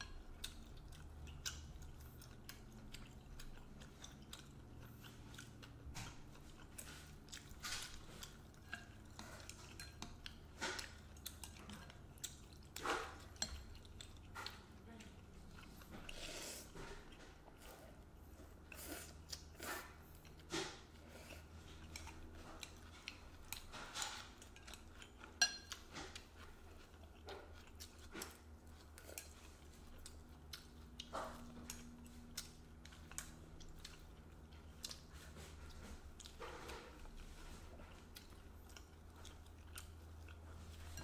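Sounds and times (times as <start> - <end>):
chewing: 0.0 - 41.0
low steady hum: 0.0 - 41.0.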